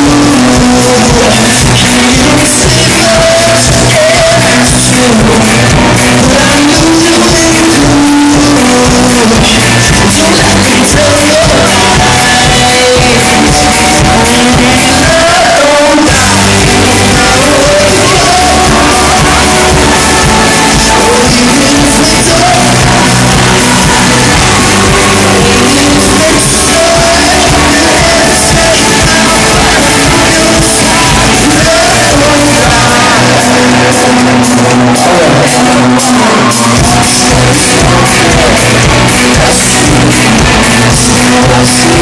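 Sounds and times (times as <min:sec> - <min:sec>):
lead vocal singing: 0:00.0 - 0:42.0
live rock band playing: 0:00.0 - 0:42.0.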